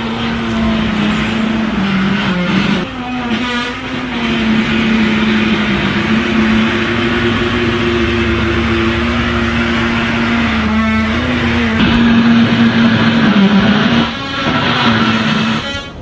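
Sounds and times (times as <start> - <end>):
machine droning with rasping buzz: 0.0 - 16.0.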